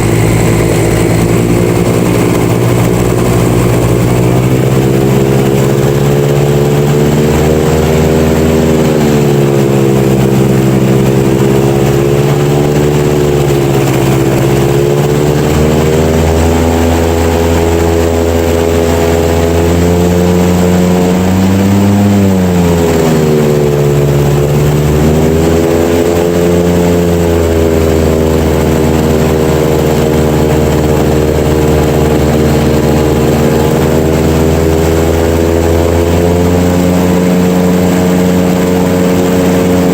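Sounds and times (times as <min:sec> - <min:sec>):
airboat engine and propeller: 0:00.0 - 0:39.9.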